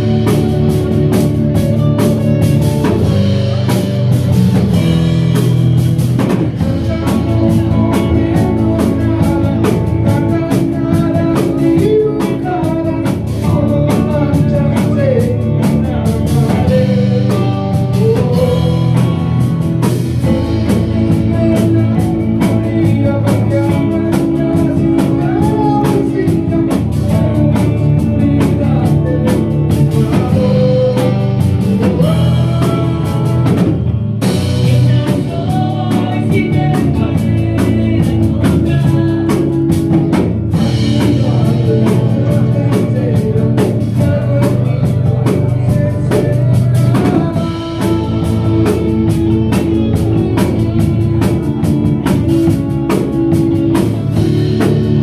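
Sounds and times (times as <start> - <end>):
drum kit beat: 0.0 - 55.0
electric bass: 0.0 - 55.0
electric guitars: 0.0 - 55.0.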